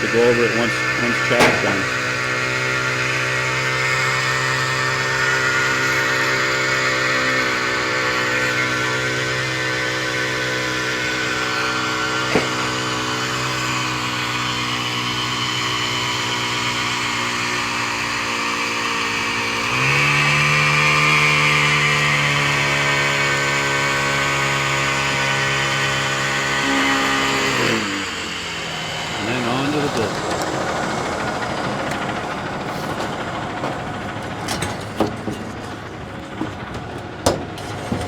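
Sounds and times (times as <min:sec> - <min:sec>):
small gas engine running: 0:00.0 - 0:38.0.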